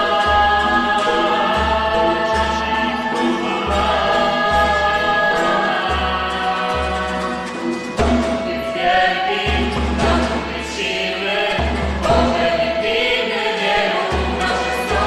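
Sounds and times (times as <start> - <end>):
group singing religious song: 0.0 - 15.0.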